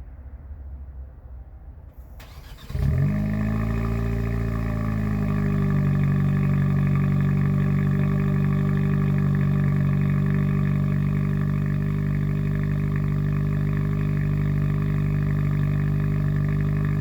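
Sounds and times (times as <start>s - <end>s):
car engine idling fast: 2.3s - 17.0s.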